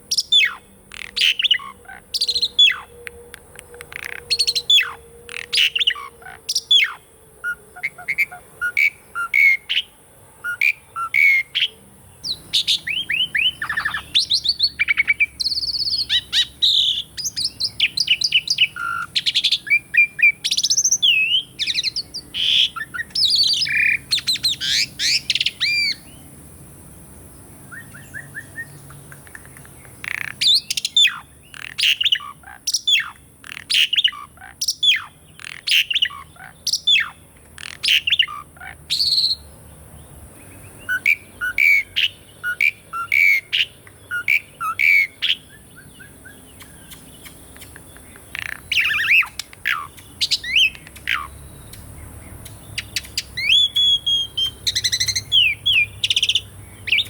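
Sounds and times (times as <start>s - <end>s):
starling singing: 0.0s - 26.3s, 27.7s - 39.5s, 40.4s - 57.0s.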